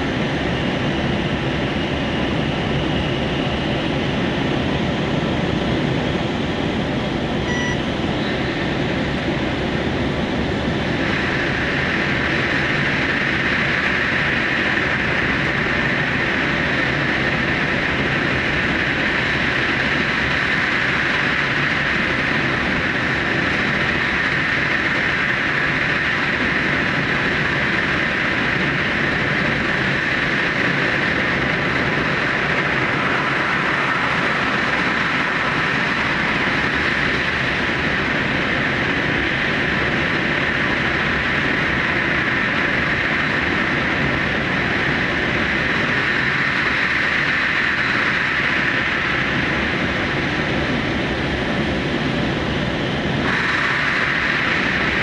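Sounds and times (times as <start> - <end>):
train rumbling in a tunnel: 0.0 - 55.0.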